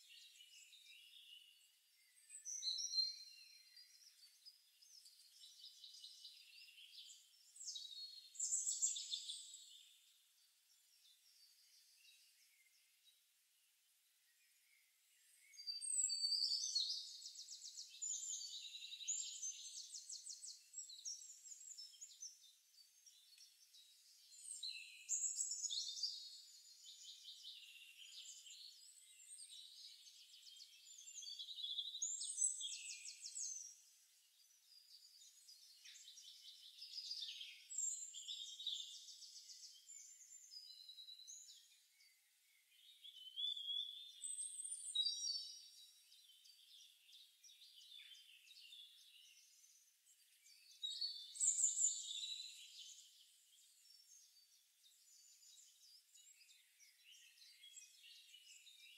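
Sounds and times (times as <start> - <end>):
songbirds trilling and chirping: 0.0 - 58.9.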